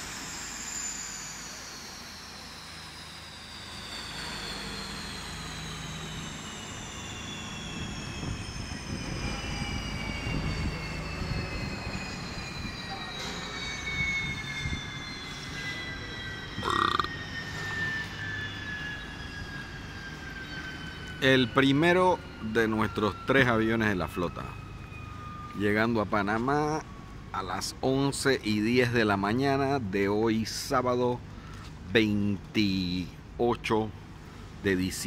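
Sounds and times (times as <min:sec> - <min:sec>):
turboprop engines winding down: 0:00.0 - 0:35.0.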